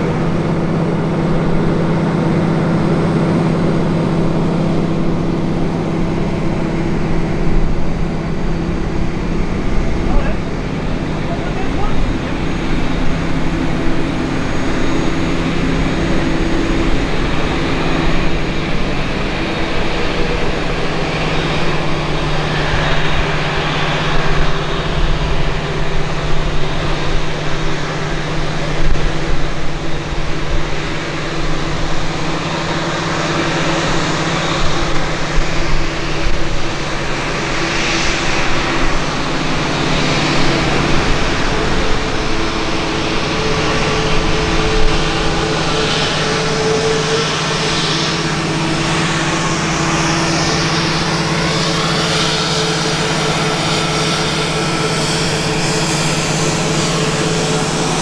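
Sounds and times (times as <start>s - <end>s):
low machinery hum: 0.0s - 58.0s
noisy rush: 0.0s - 58.0s.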